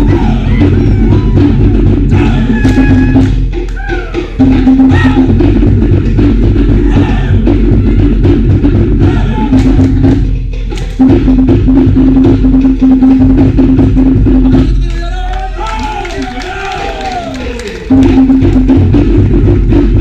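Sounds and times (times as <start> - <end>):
fast drumming: 0.0 - 16.2, 16.8 - 20.0.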